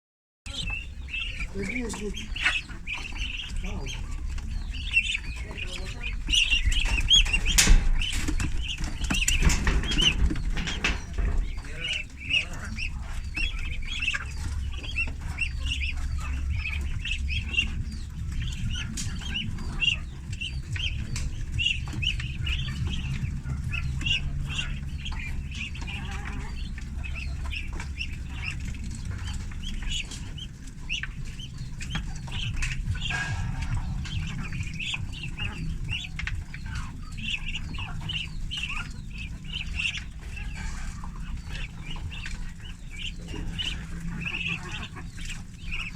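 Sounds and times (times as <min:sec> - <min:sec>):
ducklings peeping: 0:00.4 - 0:45.9
low steady rumble: 0:00.5 - 0:45.9.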